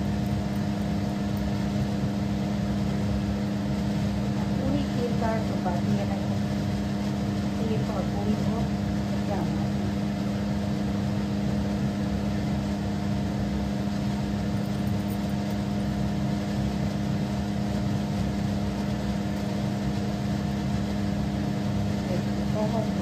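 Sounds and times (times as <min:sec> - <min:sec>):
motor hum: 0:00.0 - 0:23.0.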